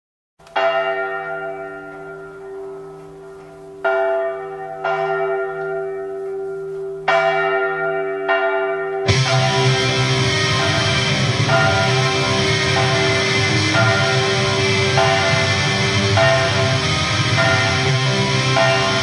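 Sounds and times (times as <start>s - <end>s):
large church bell tolling: 0.5s - 19.0s.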